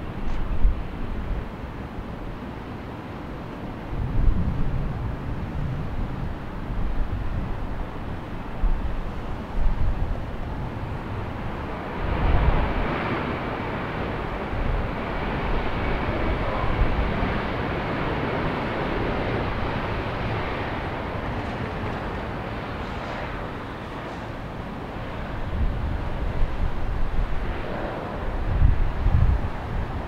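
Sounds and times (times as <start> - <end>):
wind buffeting microphone: 0.0 - 2.9, 3.6 - 30.0
jet engines at taxi power: 0.0 - 30.0.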